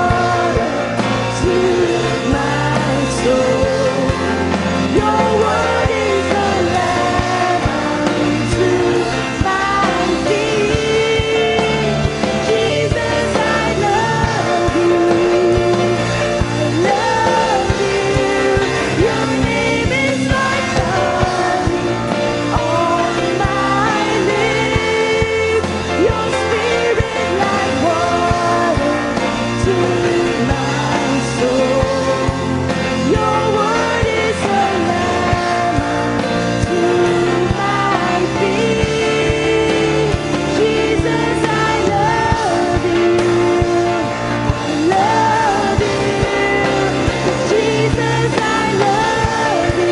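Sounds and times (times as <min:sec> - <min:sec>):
bass line: 0:00.0 - 0:49.9
person singing: 0:00.0 - 0:49.9
worship band playing: 0:00.0 - 0:49.9.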